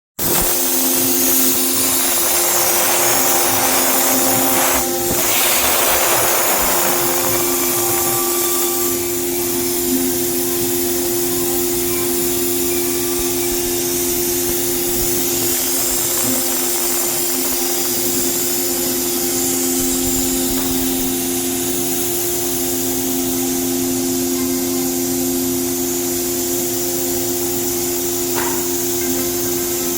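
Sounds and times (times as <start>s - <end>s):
router machine whine and hiss: 0.2s - 29.9s.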